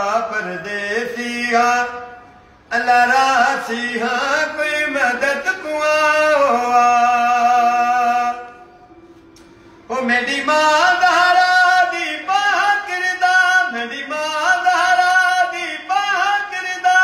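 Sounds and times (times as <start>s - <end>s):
elderly man singing a lament: 0.0s - 8.6s, 9.9s - 17.0s.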